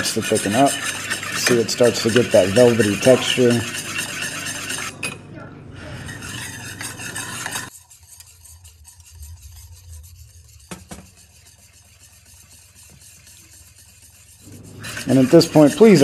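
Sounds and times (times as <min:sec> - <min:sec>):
wire whisk scratching in pan: 0:00.0 - 0:05.0, 0:05.9 - 0:16.0.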